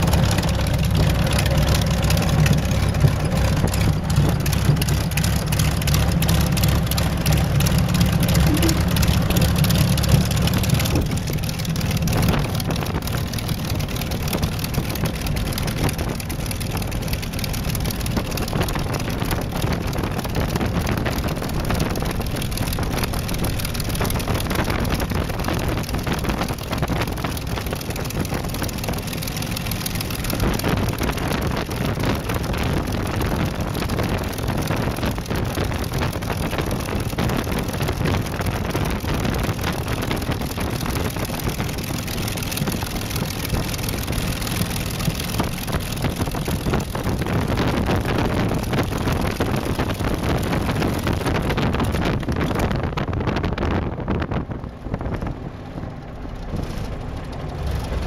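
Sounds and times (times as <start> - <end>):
piston aircraft engine idling: 0.0 - 58.0
wind noise on microphone: 0.0 - 58.0.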